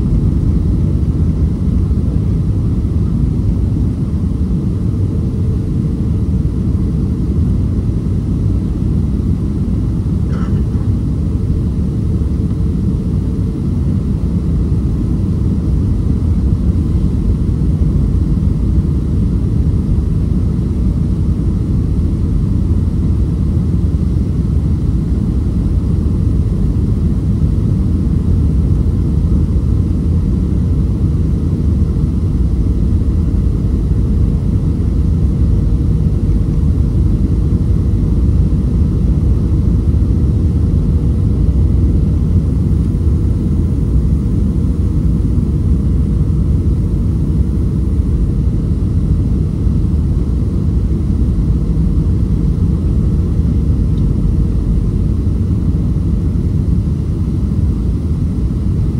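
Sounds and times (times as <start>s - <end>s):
airplane cabin engine rumble: 0.0s - 58.9s
faint steady hum: 0.0s - 58.9s.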